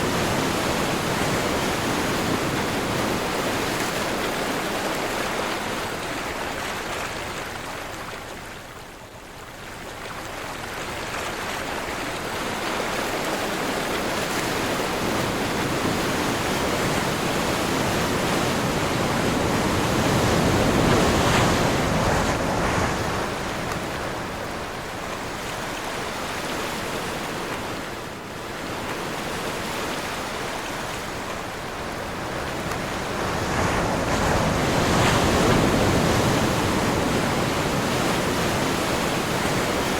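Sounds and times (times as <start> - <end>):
strong wind: 0.0 - 6.1, 12.8 - 39.9
sea waves breaking on shore: 0.0 - 39.9.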